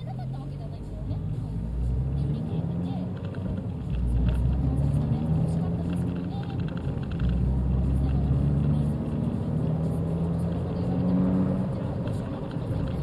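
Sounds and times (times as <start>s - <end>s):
car engine running: 0.0s - 13.0s
road rumble: 0.0s - 13.0s.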